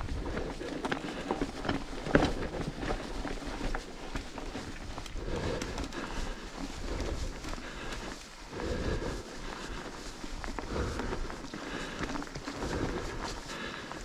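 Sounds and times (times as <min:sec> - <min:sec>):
bike chain and frame rattling: 0:00.0 - 0:14.0
tyres rolling over dirt and stones: 0:00.0 - 0:14.0.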